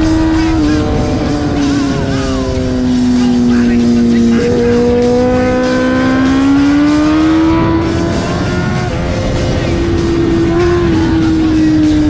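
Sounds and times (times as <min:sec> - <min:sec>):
motorcycle engine at high revs: 0:00.0 - 0:12.0
wind rush: 0:00.0 - 0:12.0.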